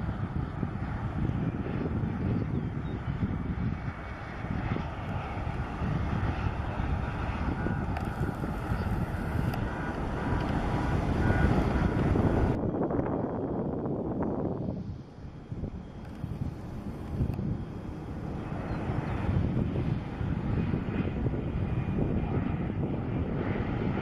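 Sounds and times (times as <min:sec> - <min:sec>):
airliner engine rush: 0:00.0 - 0:24.0
wind on microphone: 0:00.0 - 0:24.0.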